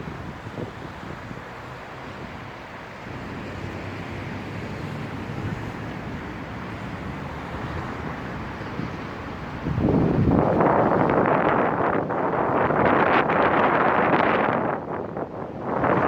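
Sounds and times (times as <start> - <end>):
strong gusty wind: 0.0 - 16.0.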